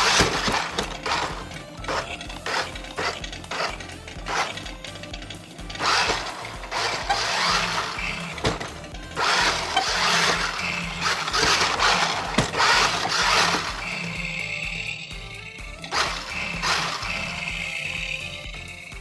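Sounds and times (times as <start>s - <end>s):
background music: 0.0s - 19.0s
toy truck electric motors whirring: 0.0s - 19.0s.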